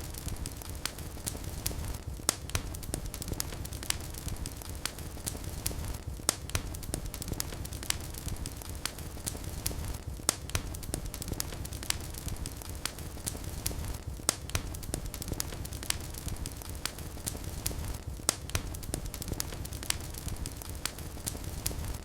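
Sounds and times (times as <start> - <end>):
wood fire burning: 0.0 - 22.0.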